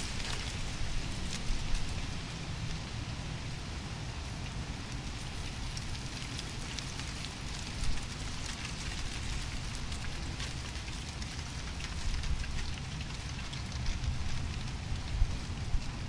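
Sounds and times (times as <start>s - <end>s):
leaves rustling in wind: 0.0s - 16.0s
low wind rumble: 0.0s - 16.0s.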